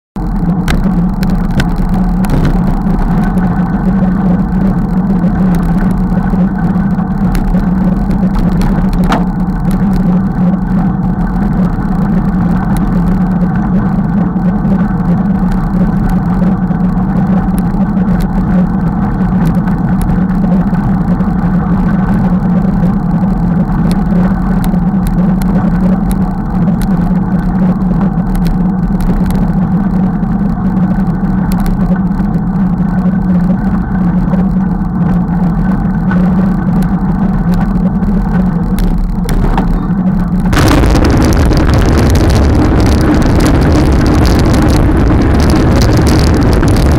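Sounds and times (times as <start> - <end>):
bike tyres rolling on gravel: 0.2 - 46.9
constant low hum: 0.2 - 46.9.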